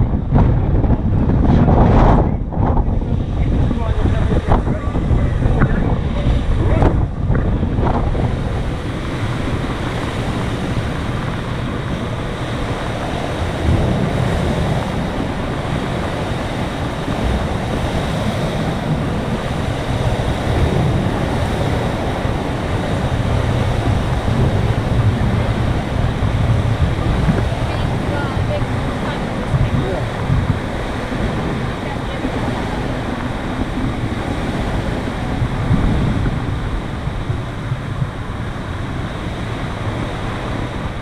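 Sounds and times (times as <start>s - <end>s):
strong wind buffeting microphone: 0.0s - 41.0s
water sloshing in waves: 0.0s - 41.0s.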